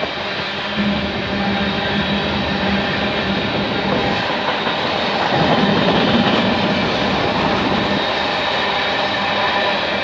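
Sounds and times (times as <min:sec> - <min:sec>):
train wheels on rails: 0:00.0 - 0:10.0.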